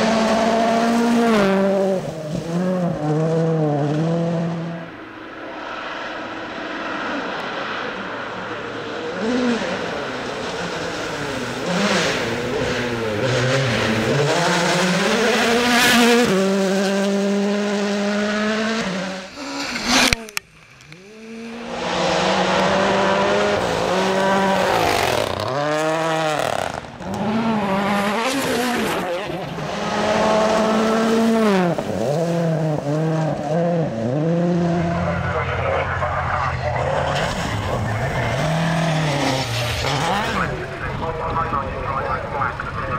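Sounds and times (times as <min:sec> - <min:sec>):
rally car engine revving: 0:00.0 - 0:42.9
engine revs rising and dropping: 0:06.0 - 0:41.2.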